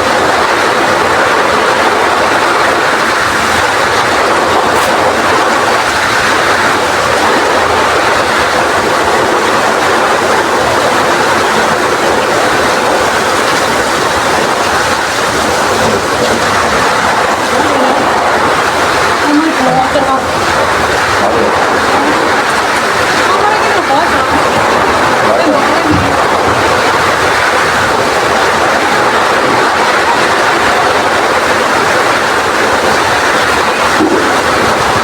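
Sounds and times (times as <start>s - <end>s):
heavy rain in strong wind: 0.0s - 35.0s.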